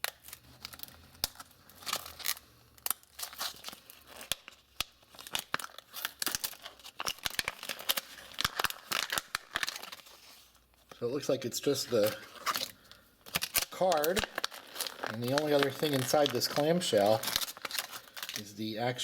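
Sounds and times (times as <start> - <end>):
plastic package crackling and tearing: 0.0 - 19.0.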